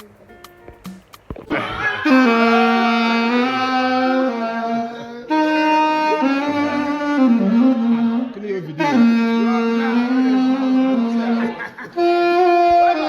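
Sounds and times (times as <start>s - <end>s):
saxophone slow melody: 0.0s - 13.0s.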